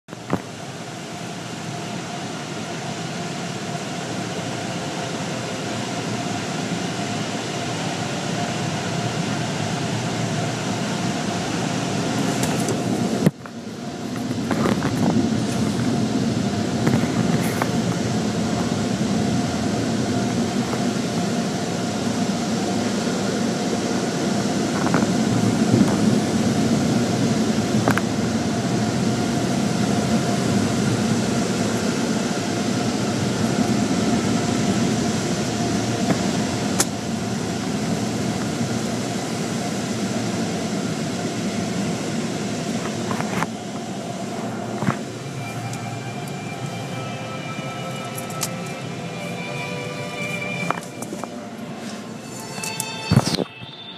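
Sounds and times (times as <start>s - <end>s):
constant machinery hum: 0.1s - 53.9s.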